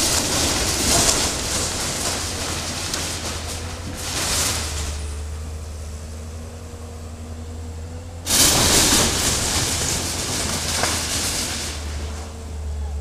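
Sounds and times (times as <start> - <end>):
metal roofing and timber crashing: 0.0 - 7.2, 8.3 - 13.0
excavator engine humming: 0.0 - 13.0.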